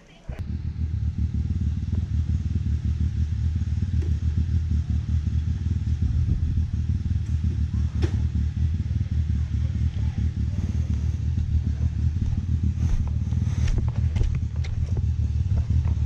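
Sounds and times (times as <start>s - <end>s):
engine running at low revs: 0.4s - 16.0s.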